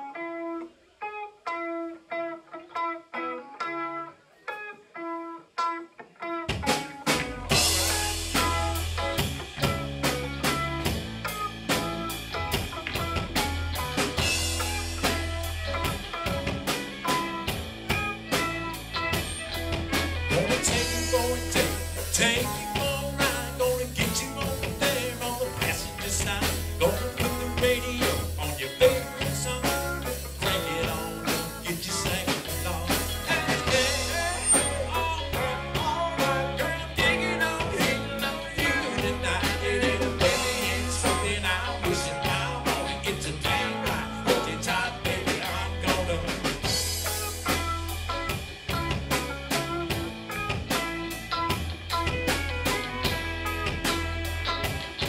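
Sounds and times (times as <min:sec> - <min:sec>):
live country band playing: 0:01.5 - 0:55.0.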